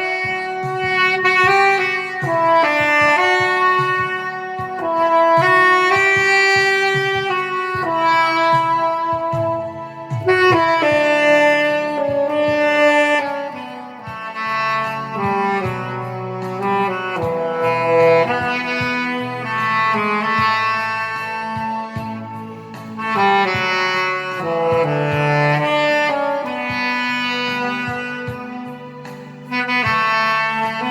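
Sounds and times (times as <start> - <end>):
backing track with bass and drums: 0.0 - 30.9
saxophone melody: 0.0 - 30.9.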